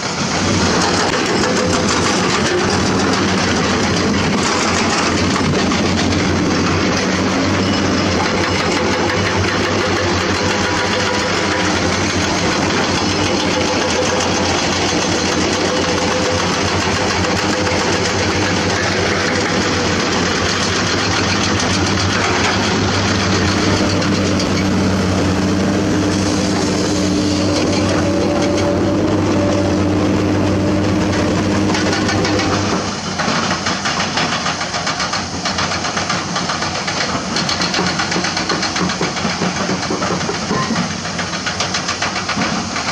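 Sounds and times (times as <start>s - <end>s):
excavator diesel engine working: 0.0s - 42.9s.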